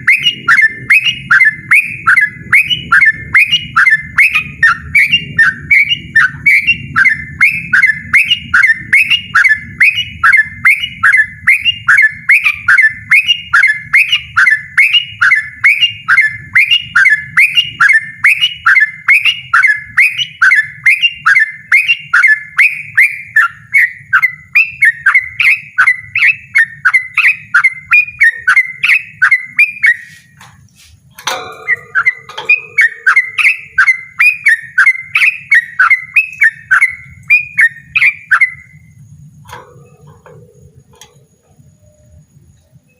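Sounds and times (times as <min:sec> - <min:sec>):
bird singing rapid repeated notes: 0:00.0 - 0:42.9.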